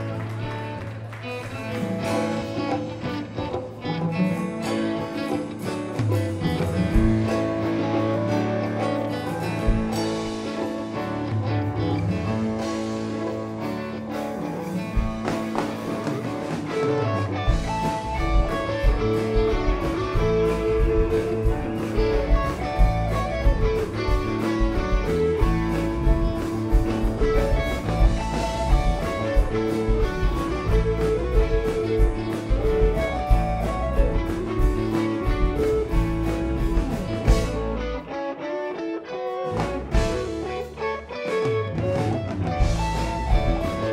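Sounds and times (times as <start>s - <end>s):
bass: 0.0s - 38.2s, 39.5s - 43.9s
drums: 0.0s - 43.9s
electric and acoustic guitars: 0.0s - 43.9s
keyboard: 0.0s - 43.9s.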